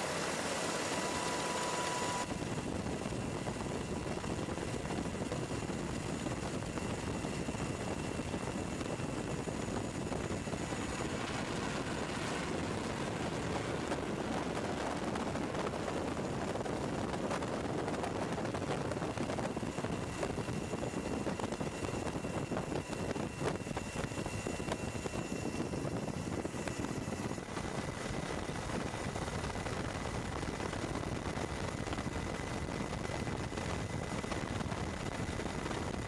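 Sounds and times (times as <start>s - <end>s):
faint high whines: 0.0s - 36.0s
helicopter rotor and turbine: 0.0s - 36.0s.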